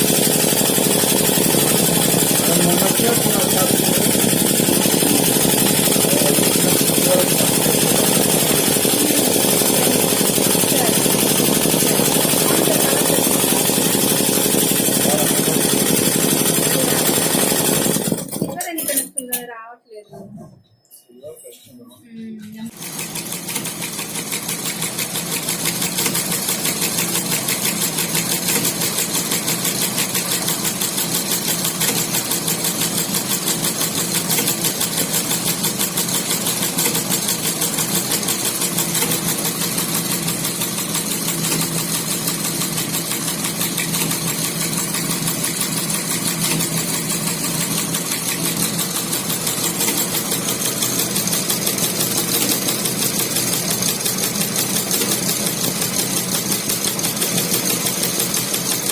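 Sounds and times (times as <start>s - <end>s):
embroidery machine needle chatter: 0.0s - 19.5s, 22.7s - 58.9s.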